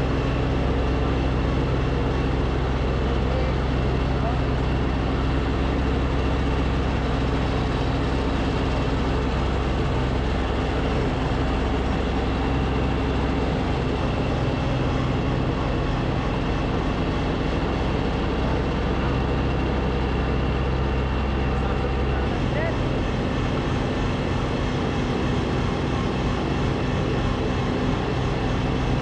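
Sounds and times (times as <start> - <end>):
snowblower engine running: 0.0 - 29.0.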